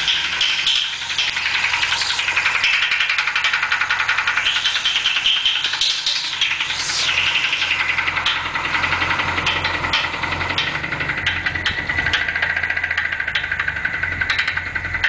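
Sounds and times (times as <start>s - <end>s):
car engine running: 0.0s - 15.0s
fast regular engine knocking: 0.0s - 15.0s.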